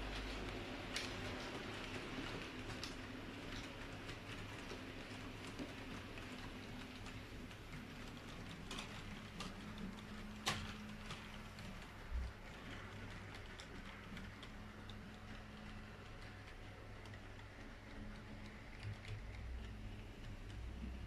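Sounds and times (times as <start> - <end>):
model train wheels clicking: 0.0 - 21.0.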